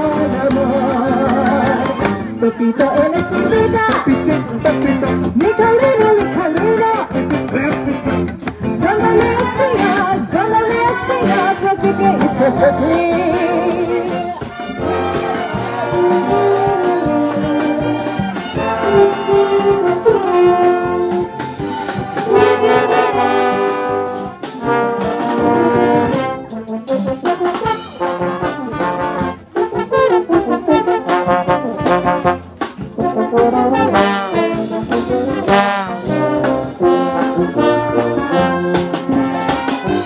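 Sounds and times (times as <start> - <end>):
brass and wind band playing: 0.0 - 40.0
trombones: 0.0 - 40.0.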